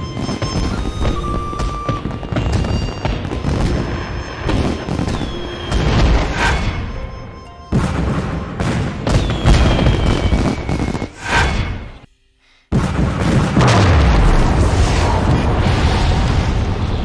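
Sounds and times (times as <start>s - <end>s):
fireworks booms and crackling bangs: 0.0s - 12.0s, 12.7s - 17.0s
background music: 0.0s - 14.6s.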